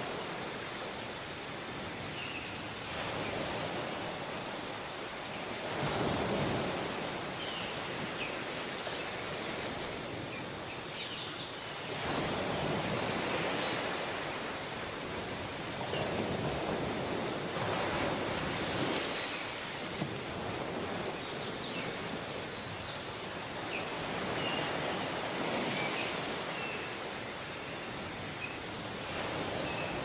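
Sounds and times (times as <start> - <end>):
waves washing onto beach: 0.0 - 30.0.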